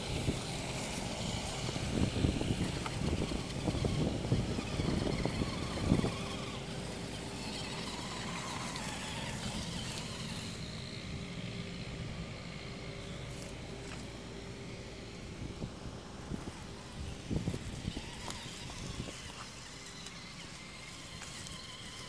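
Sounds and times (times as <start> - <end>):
electric motor hum: 0.0 - 22.0
rc truck scrabbling on bark: 0.0 - 22.0.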